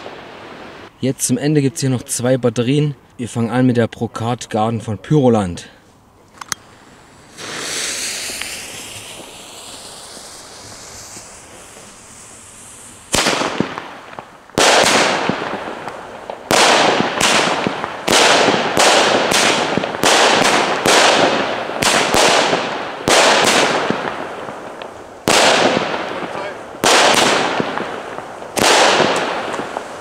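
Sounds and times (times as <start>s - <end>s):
firework crackle: 0.0s - 0.9s, 6.6s - 30.0s
firework shots: 0.0s - 0.9s, 6.5s - 30.0s.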